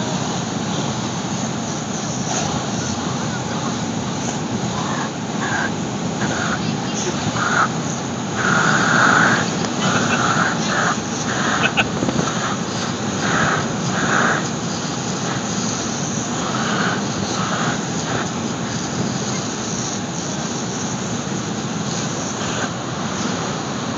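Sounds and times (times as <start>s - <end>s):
moving car noise: 0.0s - 23.9s
wind buffeting microphone: 0.4s - 20.1s.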